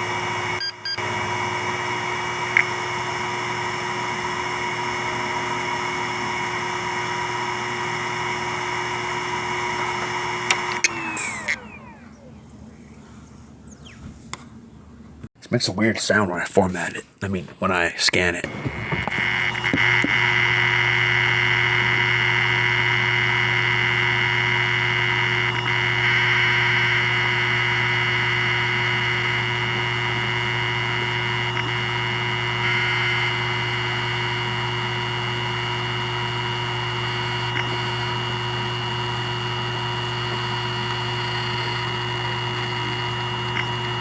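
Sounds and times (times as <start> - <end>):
hard drive high-pitched whine: 0.0 - 15.3, 18.4 - 44.0.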